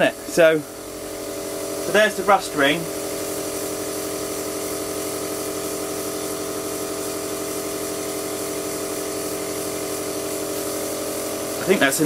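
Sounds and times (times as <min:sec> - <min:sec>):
air hissing: 0:00.0 - 0:12.0
compressor motor hum: 0:00.0 - 0:12.0.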